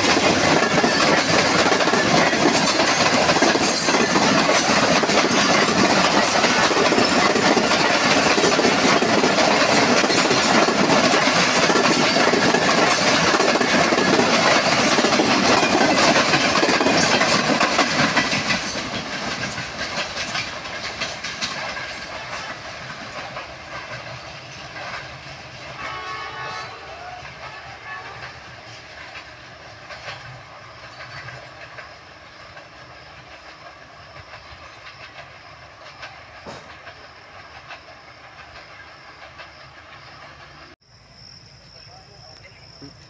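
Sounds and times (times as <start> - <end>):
train wheels clattering over joints: 0.0 - 40.8.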